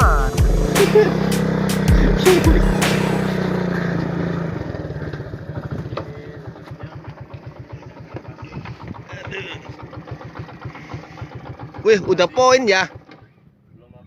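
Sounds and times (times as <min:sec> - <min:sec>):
small motorcycle engine running: 0:00.0 - 0:13.8.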